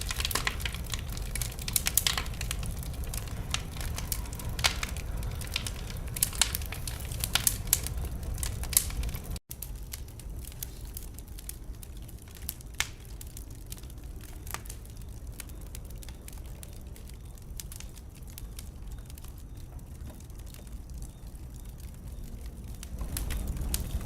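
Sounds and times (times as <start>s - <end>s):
fire rumbling: 0.0s - 24.0s
wood fire crackling and popping: 0.0s - 24.0s.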